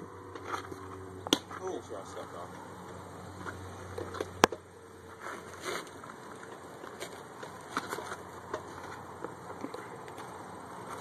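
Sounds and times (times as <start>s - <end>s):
faint outdoor background hush: 0.0s - 11.0s.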